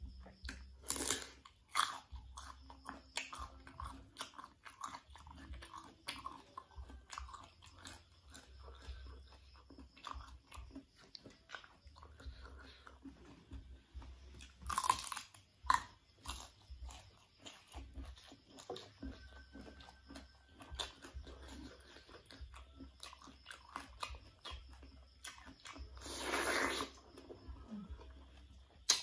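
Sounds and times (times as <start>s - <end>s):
crunching fruit: 0.0s - 29.0s.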